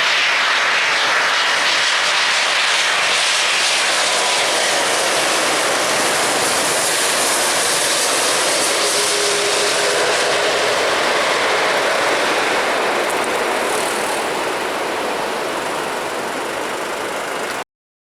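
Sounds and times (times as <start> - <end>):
jet airliner engine rush: 0.0 - 17.7.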